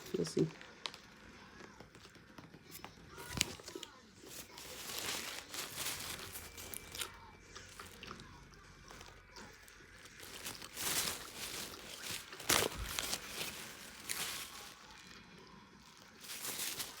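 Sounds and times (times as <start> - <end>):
biting and chewing: 0.0 - 17.0.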